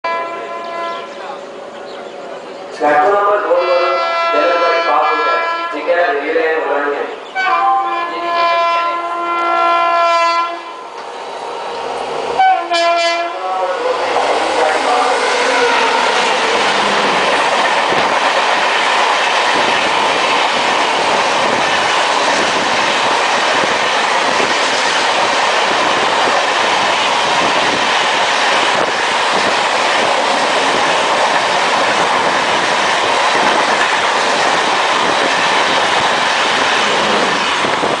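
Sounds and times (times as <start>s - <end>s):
passenger train rushing past: 0.1s - 38.0s.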